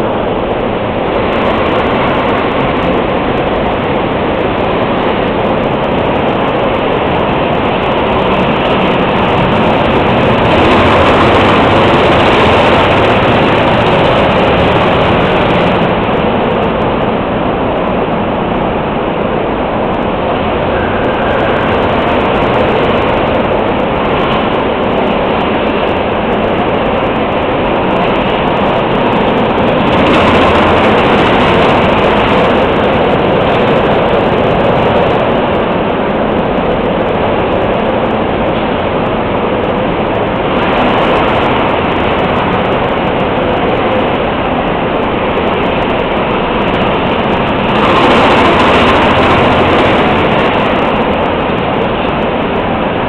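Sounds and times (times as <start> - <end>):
go-kart engines: 0.0 - 53.0.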